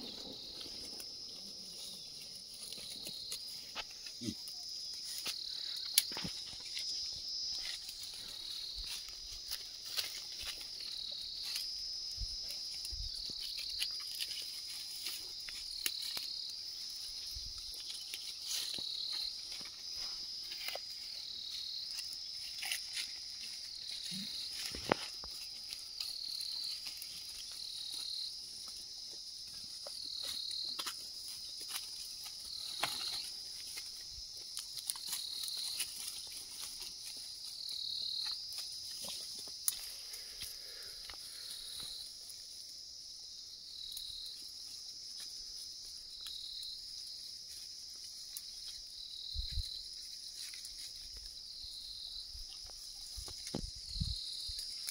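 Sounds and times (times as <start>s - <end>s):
twigs and leaves snapping and rustling: 0.0s - 42.4s, 43.8s - 54.9s
high-pitched insect chorus: 0.0s - 54.9s.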